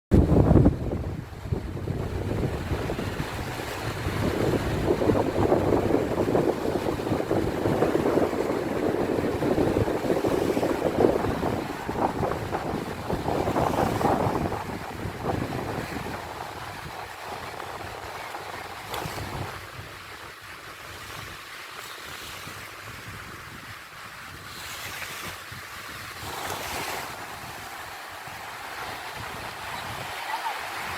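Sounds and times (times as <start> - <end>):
wind buffeting microphone: 0.1 - 30.9
sea waves: 0.2 - 30.9.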